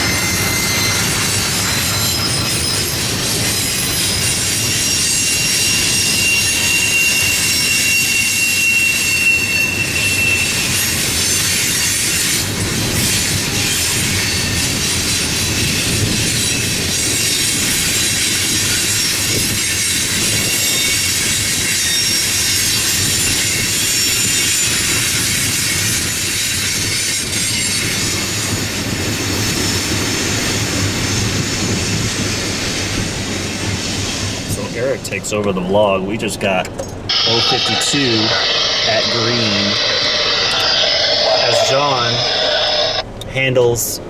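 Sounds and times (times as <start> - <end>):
high wheel squeal: 0.0 - 33.0, 37.1 - 43.0
train wheels rumbling and clattering: 0.0 - 44.0.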